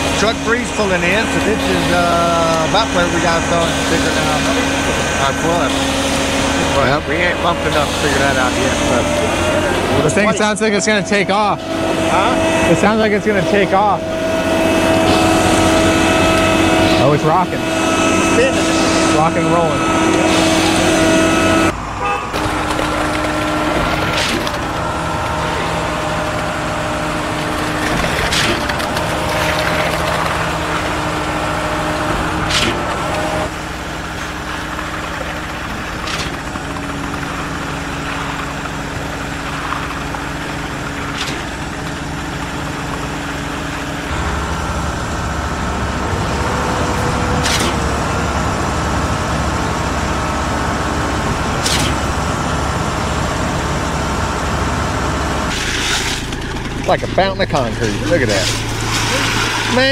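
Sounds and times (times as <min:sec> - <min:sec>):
truck engine running hard: 0:00.0 - 0:59.9.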